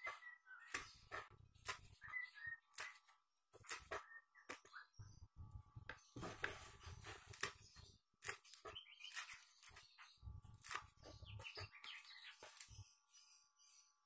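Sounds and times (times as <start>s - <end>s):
bird chirps: 0.0s - 6.2s, 7.4s - 14.0s.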